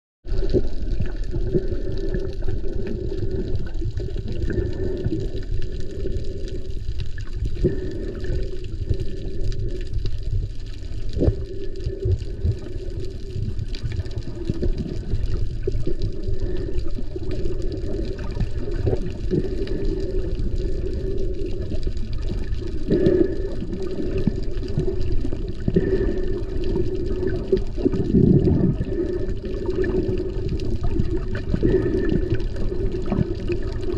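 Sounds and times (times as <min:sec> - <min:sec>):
underwater rushing and sloshing: 0:00.2 - 0:33.9.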